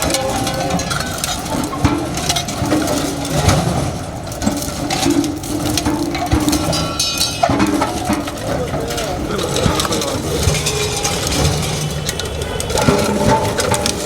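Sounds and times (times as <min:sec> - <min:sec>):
metal crunching under road roller: 0:00.0 - 0:14.0.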